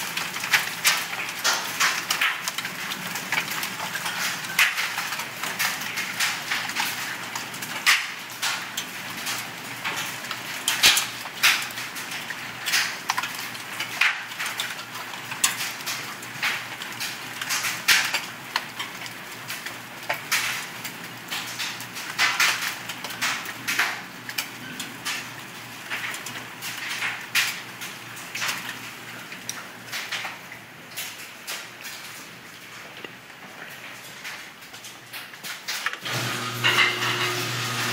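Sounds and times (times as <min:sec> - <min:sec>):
hailstones clattering on hard surfaces: 0:00.0 - 0:37.6
steady hail patter: 0:00.0 - 0:37.9.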